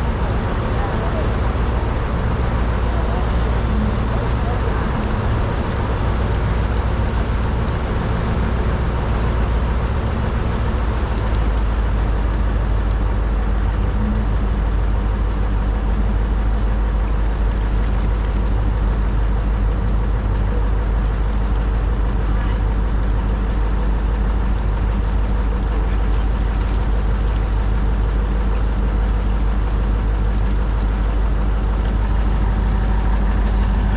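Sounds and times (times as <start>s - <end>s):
boat engine running: 0.0s - 33.9s.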